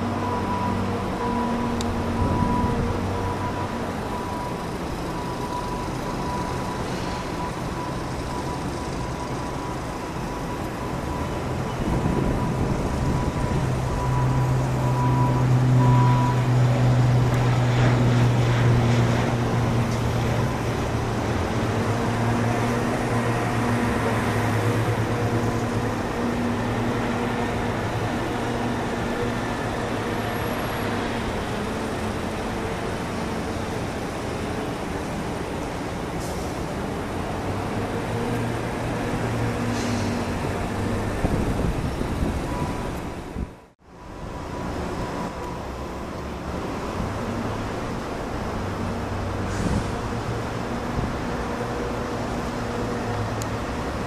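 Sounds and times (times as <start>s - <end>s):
turboprop plane taking off: 0.0s - 43.5s.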